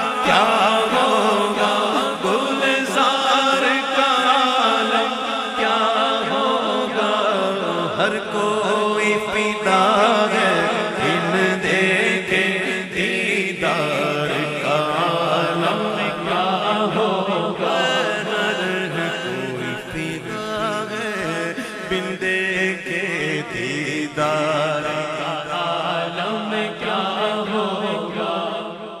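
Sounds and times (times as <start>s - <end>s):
men chanting into a microphone: 0.0s - 29.0s.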